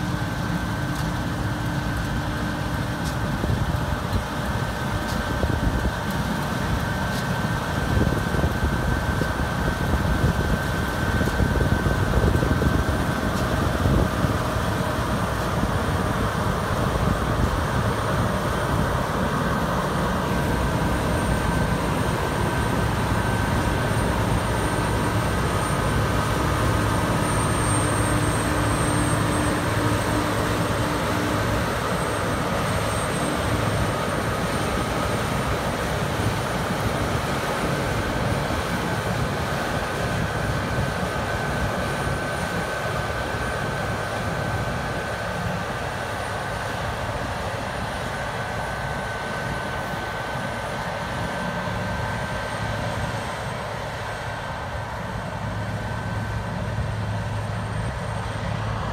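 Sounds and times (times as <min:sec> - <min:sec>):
combine harvester rumbling: 0:00.0 - 0:58.9.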